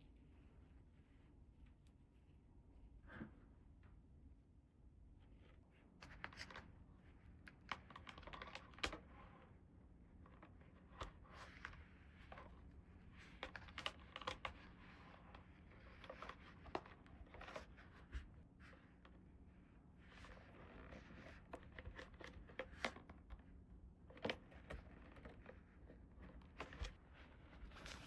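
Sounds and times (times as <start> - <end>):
soft scratching and rustling: 0.0 - 4.1, 5.1 - 28.0.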